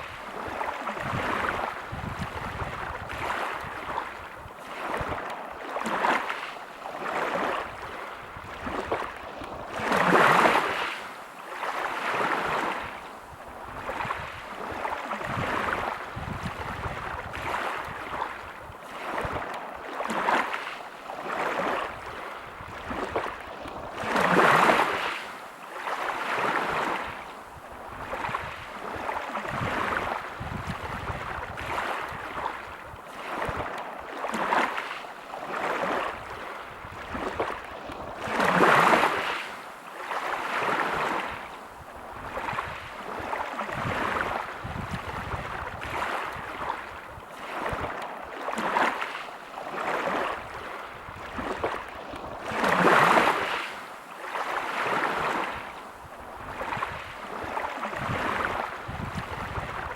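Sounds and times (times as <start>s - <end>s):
waves breaking on pebble beach: 0.0s - 59.9s.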